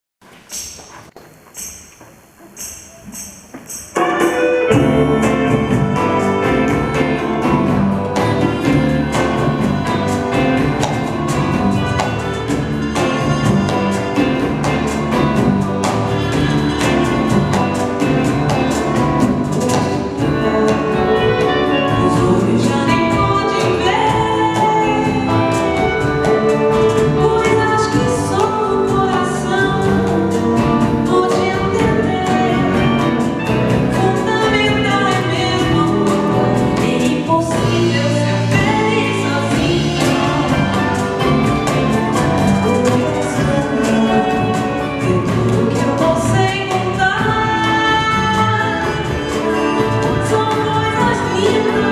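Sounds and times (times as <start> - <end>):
person singing: 2.7 - 51.9
orchestra playing: 3.7 - 51.9.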